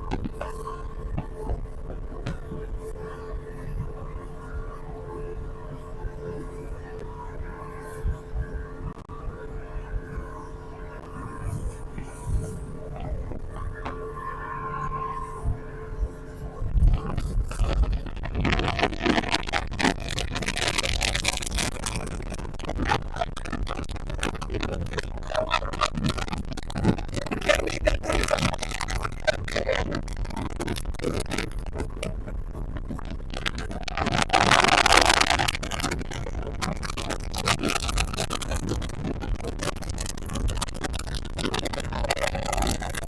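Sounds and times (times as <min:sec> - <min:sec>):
wind and water noise: 0:00.0 - 0:43.0.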